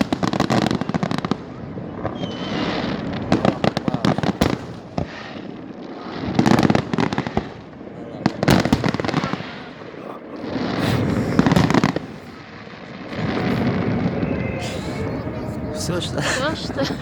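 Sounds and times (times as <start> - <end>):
fireworks crackling bangs: 0.0 - 17.0.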